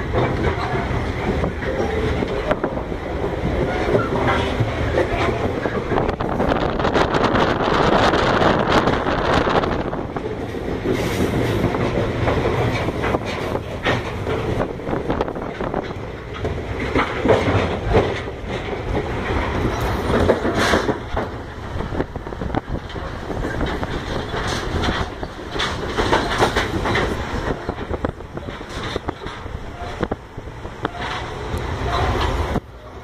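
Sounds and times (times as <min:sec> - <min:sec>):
train clacking and rattling: 0:00.0 - 0:33.0
train wheels rumbling on rails: 0:00.0 - 0:33.0.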